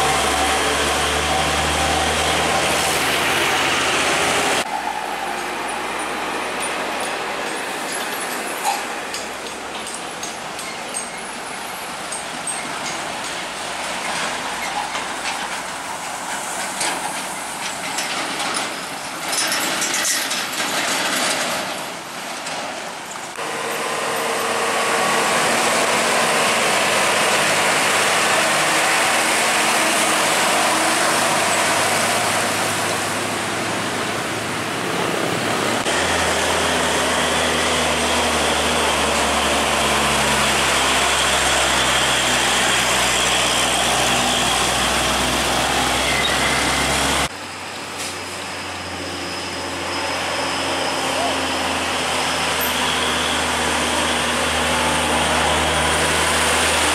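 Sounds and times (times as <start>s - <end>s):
diesel truck engine drone: 0.0s - 19.4s, 23.1s - 56.9s
tyre and traffic noise: 0.0s - 56.9s.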